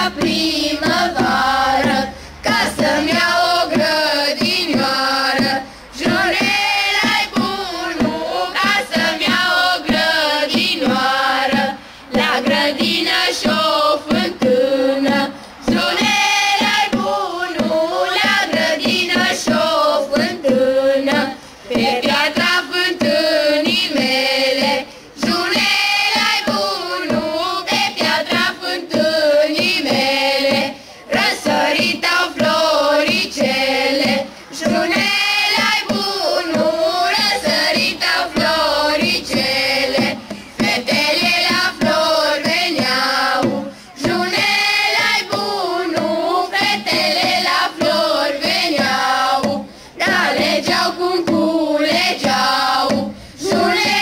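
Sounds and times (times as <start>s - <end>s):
group singing carol: 0.0s - 54.0s.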